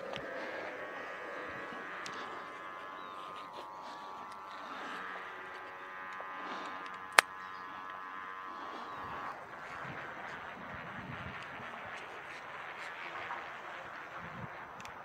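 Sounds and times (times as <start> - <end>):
kite humming bow droning: 0.0 - 15.0.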